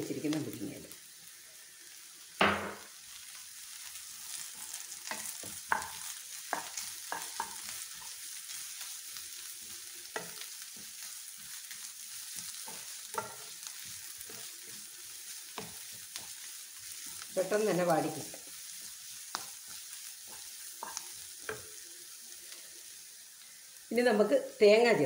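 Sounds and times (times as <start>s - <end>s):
light sizzle of frying: 0.0s - 25.0s.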